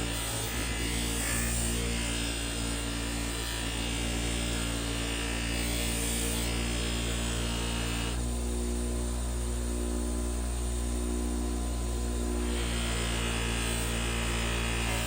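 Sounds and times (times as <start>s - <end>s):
bench grinder motor humming: 0.0s - 10.4s, 11.0s - 15.0s.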